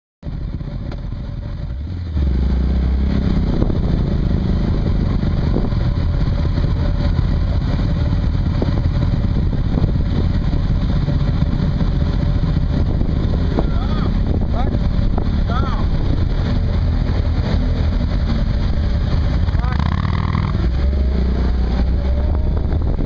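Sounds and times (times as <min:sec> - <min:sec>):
motorcycle engines rumbling: 0:00.2 - 0:23.0.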